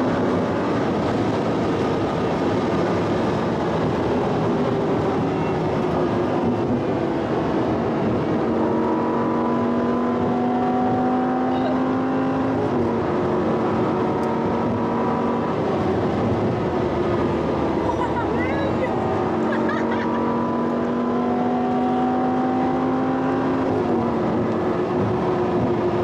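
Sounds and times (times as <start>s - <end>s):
car engine at high speed: 0.0s - 26.0s
wind and tyre noise: 0.0s - 26.0s.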